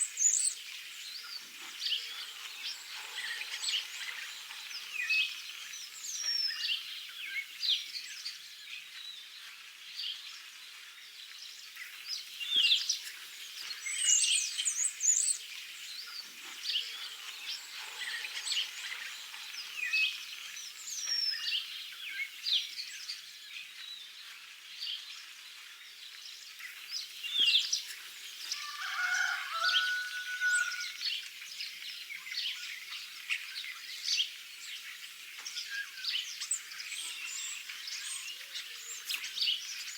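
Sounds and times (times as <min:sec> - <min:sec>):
background hiss: 0:00.0 - 0:39.9
songbirds chirping and singing: 0:00.0 - 0:39.9.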